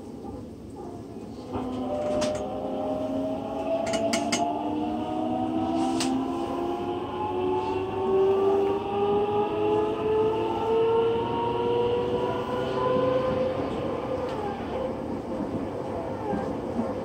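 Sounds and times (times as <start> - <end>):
train rolling noise: 0.0 - 17.0
train motor whine: 1.4 - 15.0.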